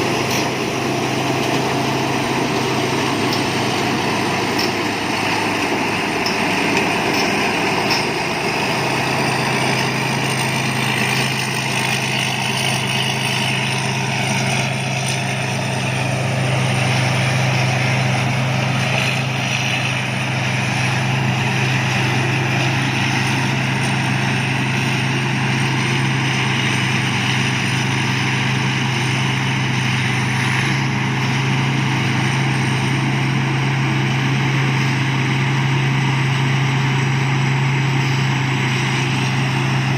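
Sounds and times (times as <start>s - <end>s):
harvester engine drone: 0.0s - 39.9s.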